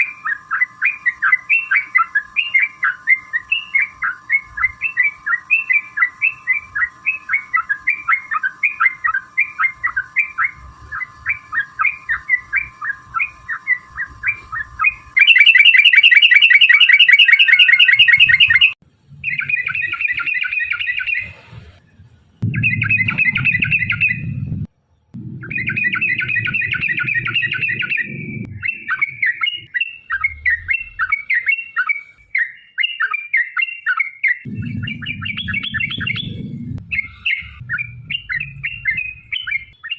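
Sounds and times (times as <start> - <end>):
bird chirping: 0.0 - 21.4, 22.4 - 39.9
bird rapid chatter: 0.2 - 21.4, 25.4 - 33.2, 34.4 - 39.9
bird fast rolled trill: 0.5 - 21.3, 22.5 - 24.3, 25.4 - 31.9, 34.5 - 39.9.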